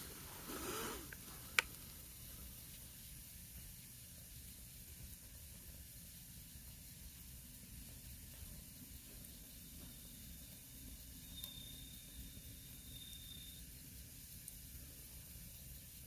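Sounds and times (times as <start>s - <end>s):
fire hissing: 0.0s - 16.0s.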